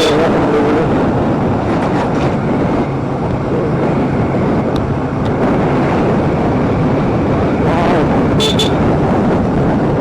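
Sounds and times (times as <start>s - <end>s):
motorcycle engine hum: 0.0s - 10.0s
wind rush on microphone: 0.0s - 10.0s.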